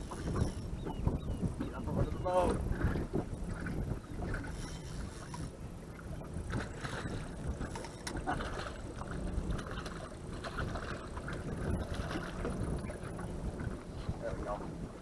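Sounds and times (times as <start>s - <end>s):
water lapping against boat hull: 0.0s - 15.0s
wind buffeting microphone: 0.0s - 15.0s.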